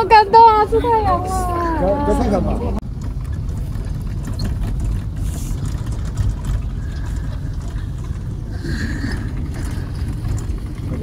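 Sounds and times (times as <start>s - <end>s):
minibus engine rumble: 0.0s - 11.0s.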